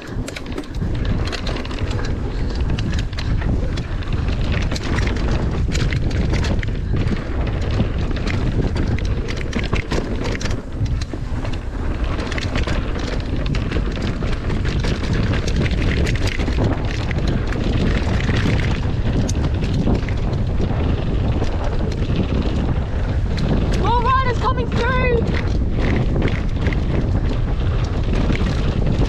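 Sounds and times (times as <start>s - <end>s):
bike clicking and clattering: 0.0s - 29.0s
wind buffeting microphone: 0.0s - 29.0s.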